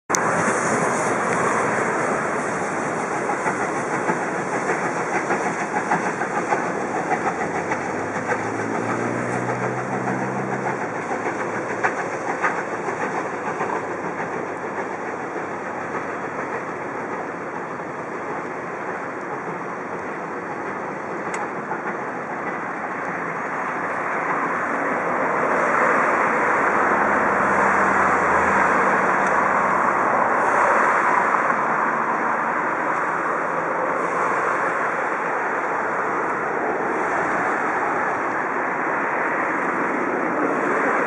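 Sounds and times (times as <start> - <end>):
train rumbling over track: 0.1 - 41.0.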